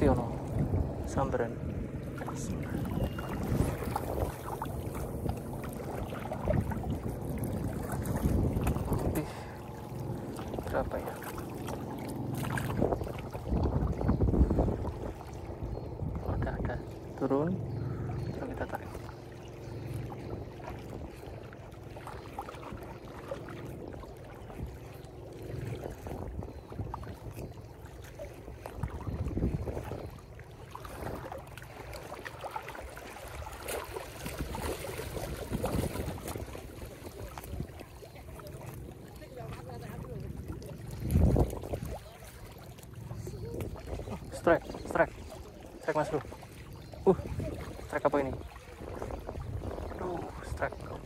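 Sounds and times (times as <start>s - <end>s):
waves lapping against rocks: 0.0s - 51.0s
wind buffeting microphone: 0.0s - 51.0s.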